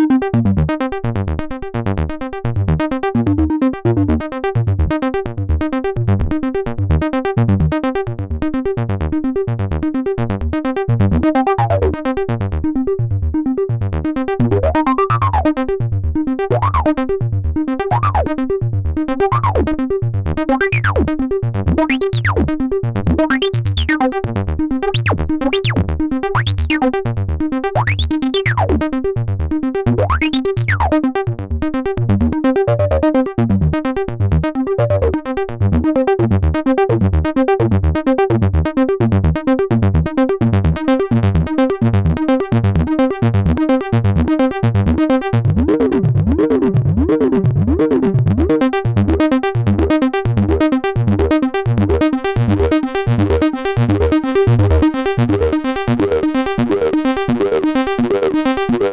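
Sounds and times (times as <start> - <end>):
synthesizer acid bassline: 11.1 - 58.9.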